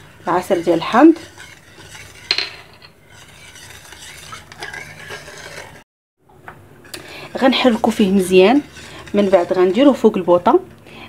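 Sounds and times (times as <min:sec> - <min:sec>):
spoon scraping saucepan: 0:00.0 - 0:05.8, 0:06.8 - 0:10.7.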